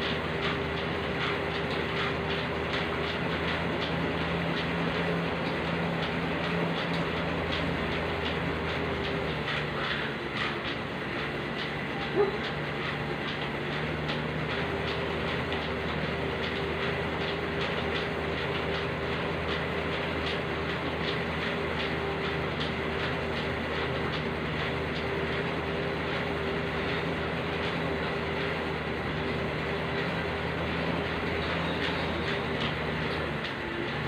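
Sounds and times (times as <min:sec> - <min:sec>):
flywheel whirring hum: 0:00.0 - 0:34.0
pedals clicking: 0:00.0 - 0:34.0.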